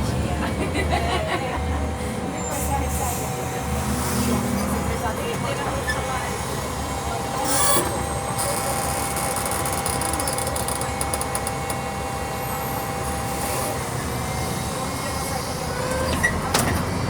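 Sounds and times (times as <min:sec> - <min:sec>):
bus diesel engine running: 0:00.0 - 0:17.0
road rumble: 0:00.0 - 0:17.0.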